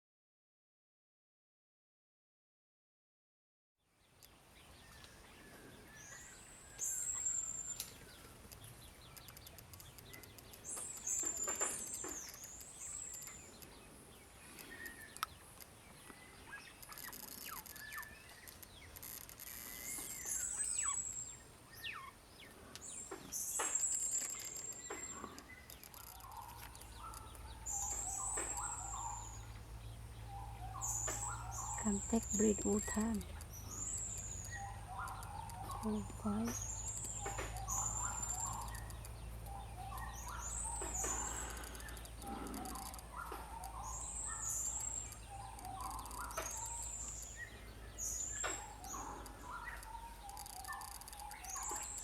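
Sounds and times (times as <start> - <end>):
soft low bird chirps: 4.1 - 52.0.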